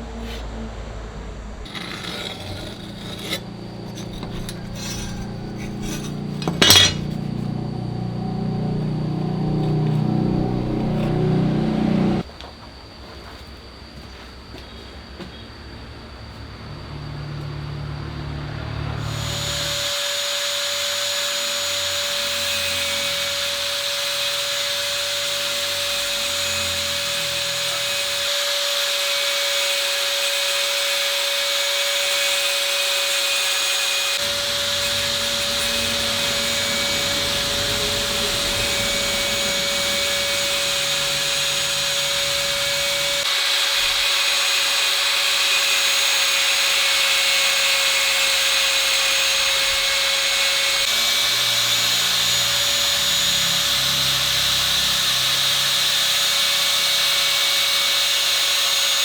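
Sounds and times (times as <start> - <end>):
electric grinder grinding metal: 1.6 - 12.3, 17.2 - 59.0.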